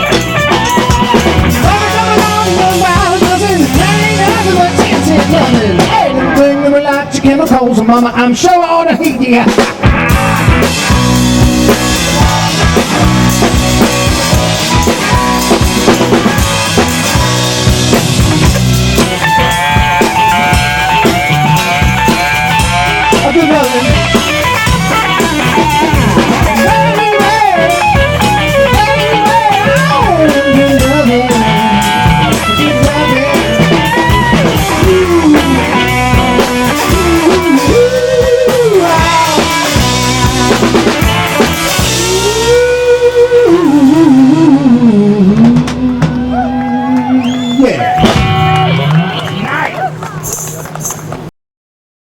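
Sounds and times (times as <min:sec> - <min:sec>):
lead guitar bending notes: 0:00.0 - 0:51.2
live band playing: 0:00.0 - 0:51.3.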